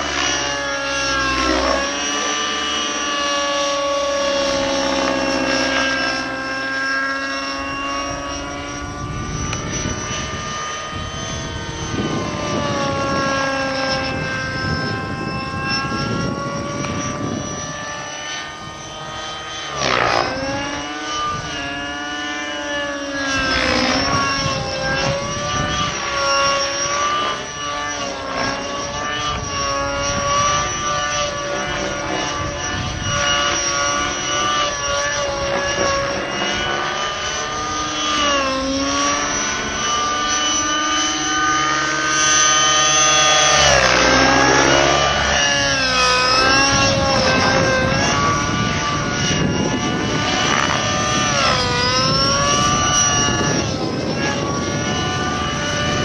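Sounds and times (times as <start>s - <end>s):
model helicopter engine whine: 0.0s - 56.0s.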